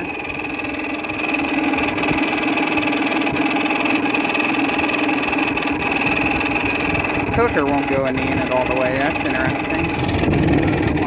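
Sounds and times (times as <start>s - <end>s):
air conditioner humming: 0.0s - 11.0s
fan motor whine: 0.0s - 11.0s.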